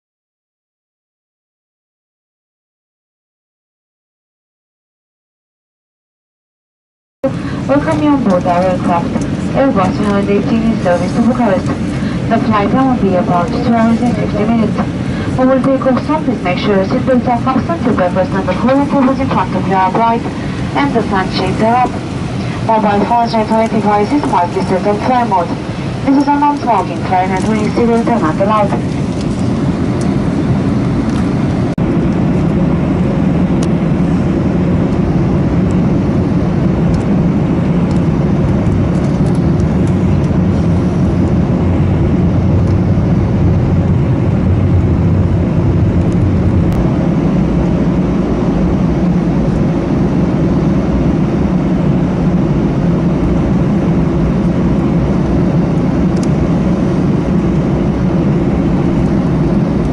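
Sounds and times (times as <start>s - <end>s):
airliner cabin engine rumble: 7.2s - 59.9s.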